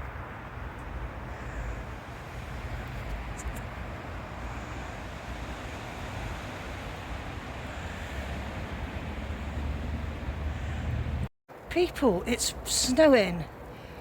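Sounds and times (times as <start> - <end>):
car engine and road rumble: 0.0 - 11.7.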